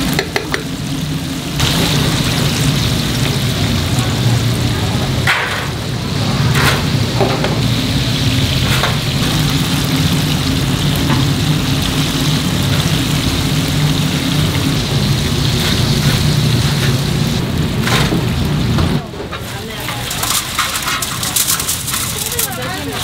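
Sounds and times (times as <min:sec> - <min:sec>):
oil sizzling in deep fryer: 0:00.0 - 0:23.0.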